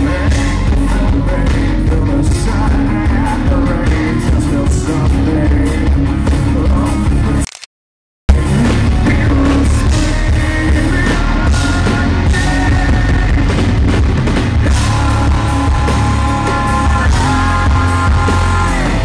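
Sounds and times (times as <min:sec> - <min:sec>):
live rock band playing: 0:00.0 - 0:07.4, 0:08.3 - 0:19.0.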